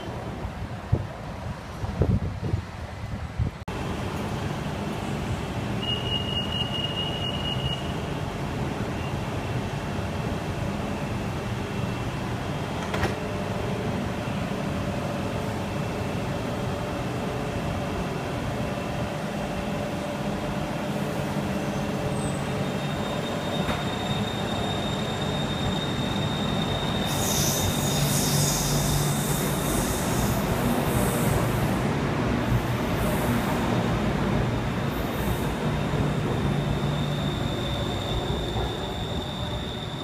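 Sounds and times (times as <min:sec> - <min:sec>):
metro train rumble: 0:00.0 - 0:40.0.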